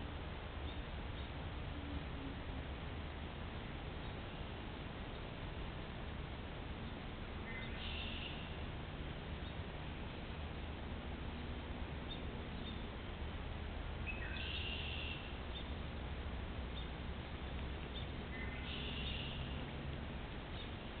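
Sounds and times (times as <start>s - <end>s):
microphone hiss: 0.0s - 21.0s.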